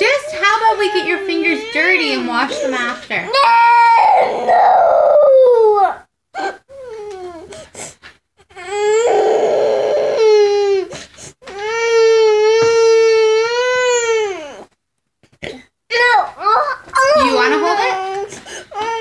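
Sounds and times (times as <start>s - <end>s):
toddler crying and wailing: 0.4s - 7.5s, 8.5s - 14.7s, 15.9s - 19.0s.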